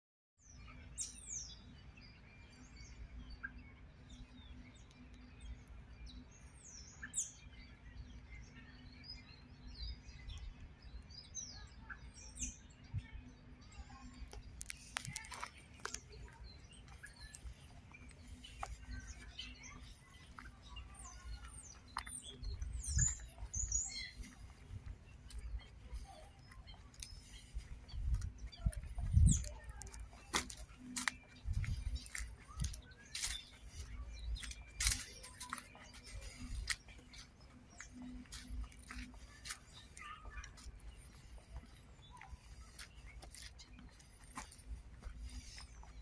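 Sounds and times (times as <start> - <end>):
small birds chirping: 0.4 - 46.0.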